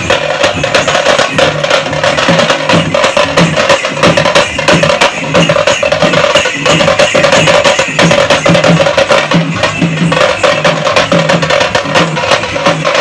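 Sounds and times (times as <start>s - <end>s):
street drum band playing: 0.0s - 13.0s.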